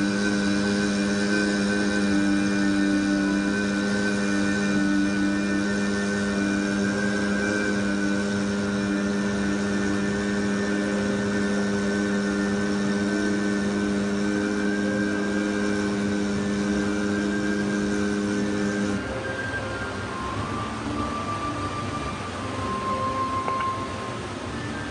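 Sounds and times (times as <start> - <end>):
steady drone tone: 0.0 - 24.9.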